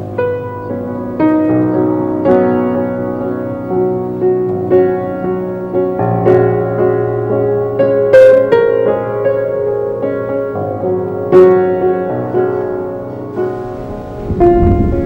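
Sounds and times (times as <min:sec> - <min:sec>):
solo piano playing: 0:00.0 - 0:15.0.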